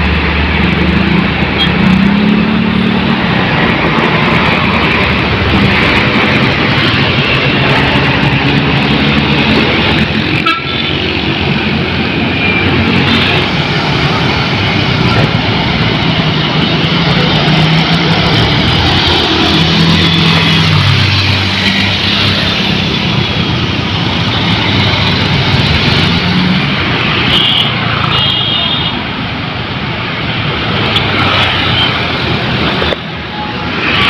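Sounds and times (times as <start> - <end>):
heavy road traffic: 0.0 - 34.0.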